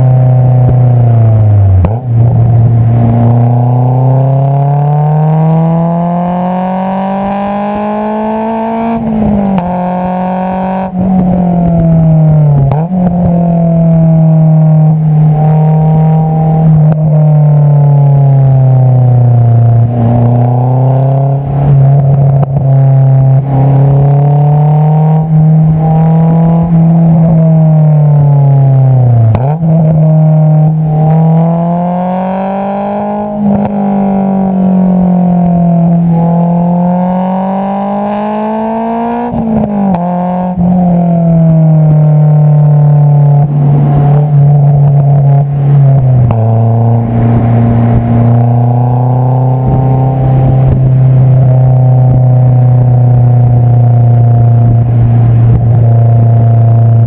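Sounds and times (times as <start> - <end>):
car exhaust note: 0.0 - 57.0.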